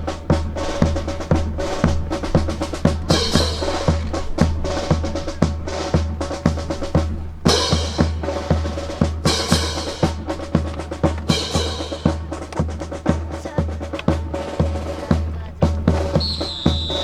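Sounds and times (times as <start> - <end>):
marching bass and snare drums: 0.0 - 17.0.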